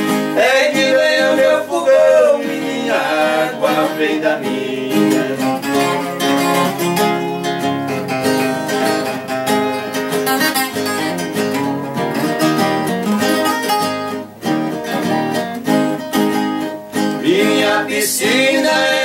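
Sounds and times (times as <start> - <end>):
folk guitar picking melody: 0.0 - 19.0
strummed acoustic guitar: 0.0 - 19.0.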